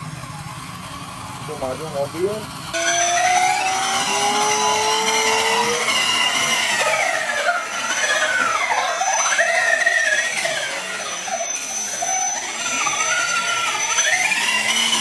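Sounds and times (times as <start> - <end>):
electric motor and gear whine: 0.0 - 15.0
thin high whine: 0.0 - 15.0.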